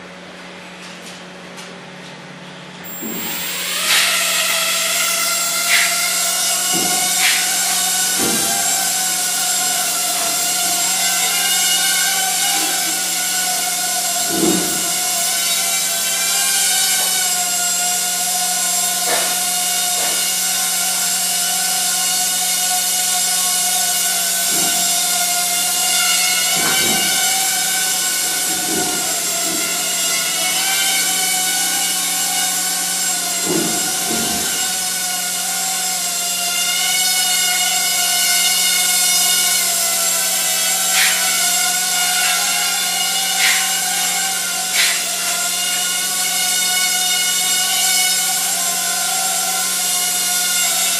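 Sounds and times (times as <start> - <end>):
mini drone motors whining: 2.8 - 50.9.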